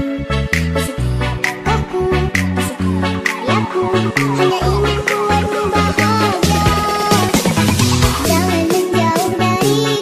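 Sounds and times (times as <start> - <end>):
electronic dance music: 0.4 - 10.0.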